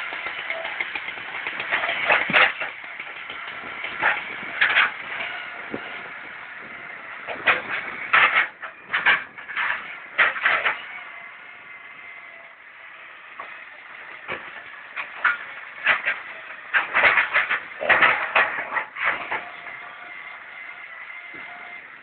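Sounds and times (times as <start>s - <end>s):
metallic squeaks and clanks: 0.0s - 11.8s, 12.8s - 22.0s
diesel engine running: 0.0s - 22.0s.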